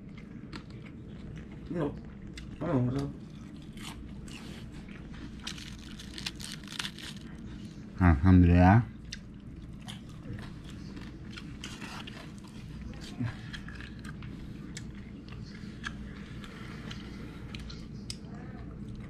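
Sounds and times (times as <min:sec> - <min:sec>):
person chewing crunchy food: 0:00.0 - 0:07.6, 0:09.0 - 0:19.0.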